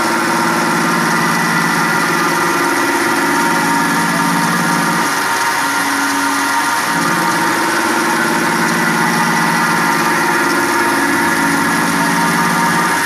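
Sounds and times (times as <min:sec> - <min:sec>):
low machine hum: 0:00.0 - 0:13.0
milling machine spindle whine: 0:00.0 - 0:13.0.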